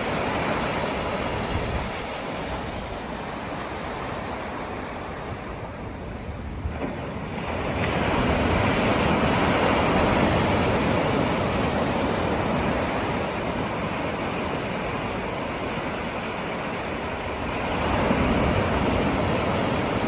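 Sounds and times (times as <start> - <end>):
sea waves breaking: 0.0 - 20.0.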